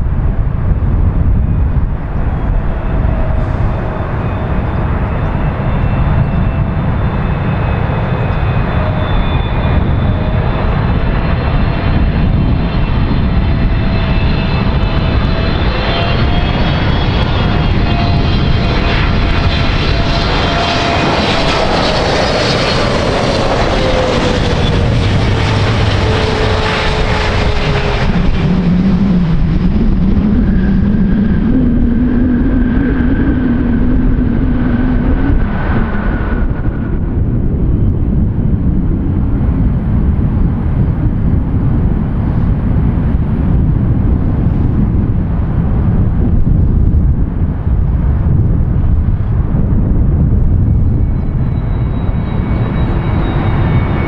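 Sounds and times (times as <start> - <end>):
jet engine whine: 0.0 - 54.0
loud rumble: 0.0 - 54.0.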